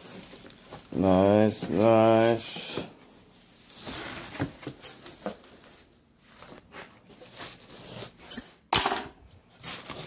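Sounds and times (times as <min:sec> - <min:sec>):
plastic wrap and cardboard rustling: 0:00.0 - 0:08.3, 0:09.4 - 0:10.0.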